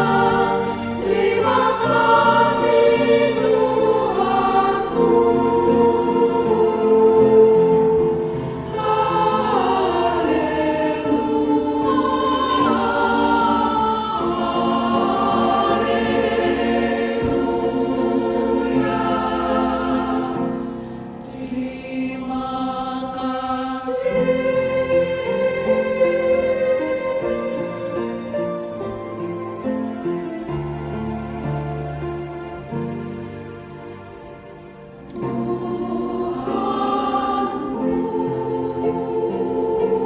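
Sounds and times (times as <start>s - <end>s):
choir singing sustained chords: 0.0s - 40.0s.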